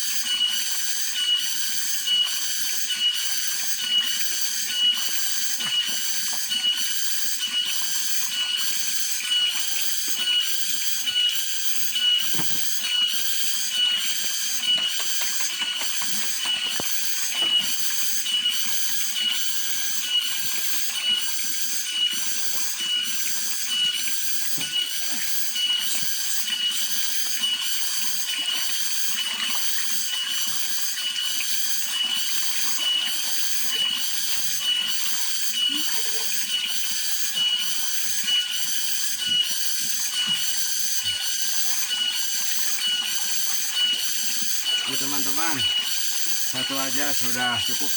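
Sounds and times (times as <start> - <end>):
cicadas chorus: 0.0 - 47.9.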